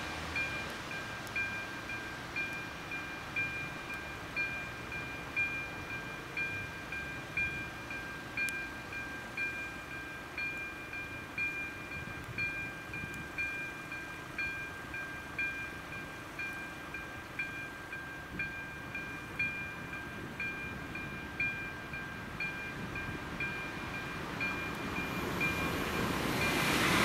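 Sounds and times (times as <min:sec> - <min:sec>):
electronic crossing bell dinging: 0:00.3 - 0:27.0
steady warning tone: 0:00.3 - 0:27.0.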